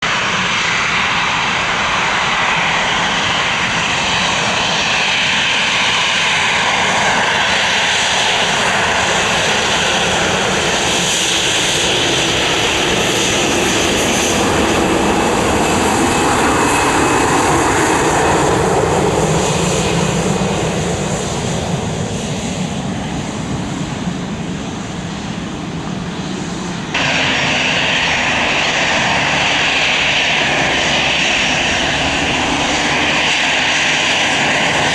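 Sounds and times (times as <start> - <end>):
passenger jet engine: 0.0 - 34.9.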